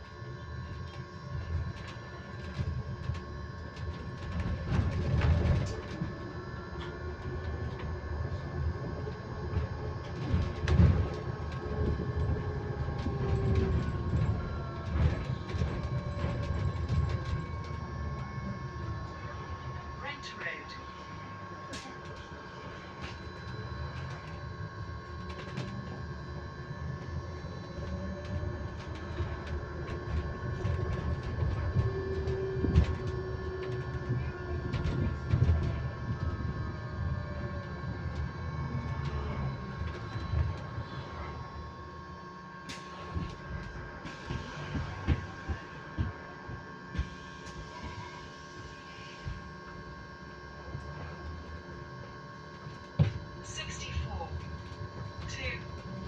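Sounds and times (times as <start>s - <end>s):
bus ride rumble and knocks: 0.0s - 56.0s
motor whine: 0.0s - 56.0s
steady high-pitched electric noise: 0.0s - 56.0s.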